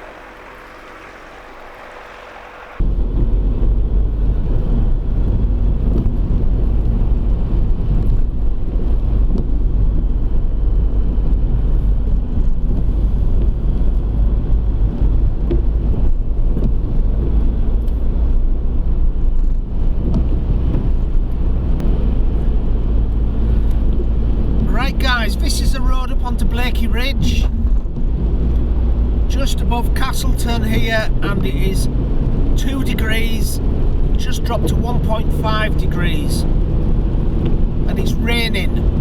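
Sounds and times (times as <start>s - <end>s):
car engine and tyre rumble: 0.0s - 39.0s.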